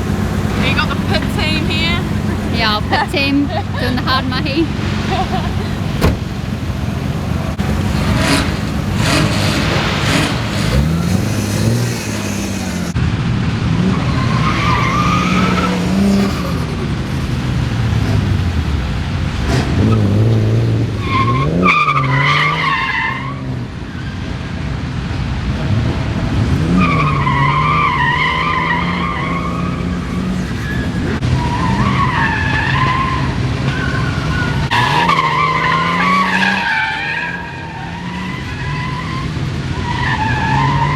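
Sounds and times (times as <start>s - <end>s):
tyres squealing: 0.0s - 13.0s, 13.8s - 23.4s, 26.6s - 40.9s
car engine revving: 0.0s - 40.9s.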